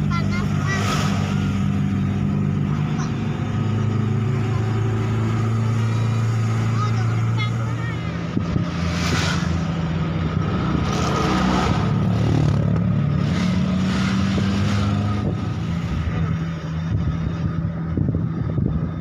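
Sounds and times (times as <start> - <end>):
car engine running: 0.0 - 19.0
road and wind noise: 0.0 - 19.0.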